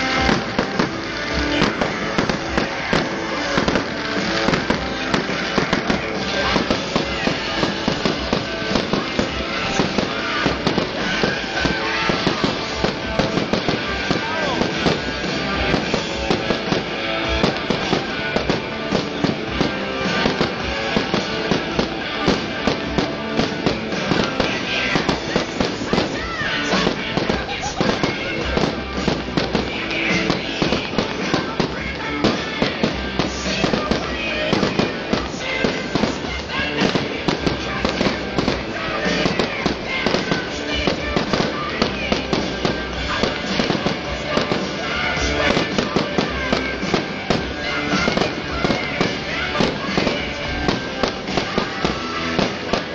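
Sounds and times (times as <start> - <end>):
fireworks bangs and crackles: 0.0 - 52.9
loud music: 0.0 - 52.9.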